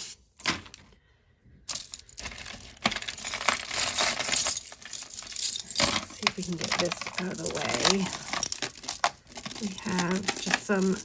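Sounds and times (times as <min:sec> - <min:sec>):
beads and metal pieces clinking: 0:01.6 - 0:11.0.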